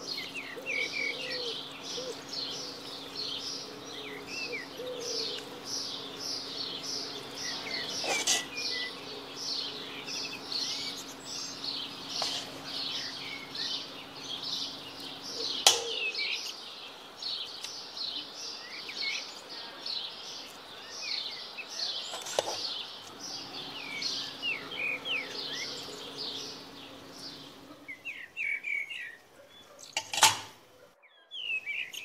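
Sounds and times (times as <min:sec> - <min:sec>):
faint steady hum: 0:00.0 - 0:29.4
small birds chirping: 0:00.0 - 0:32.0.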